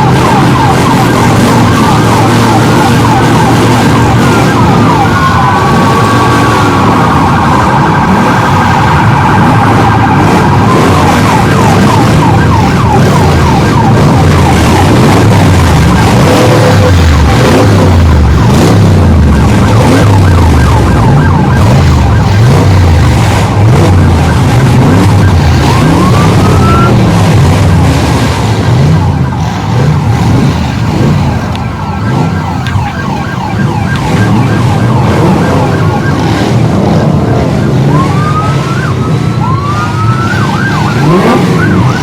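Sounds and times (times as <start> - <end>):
siren wailing: 0.0 - 42.0
vehicle engines revving: 0.0 - 42.0.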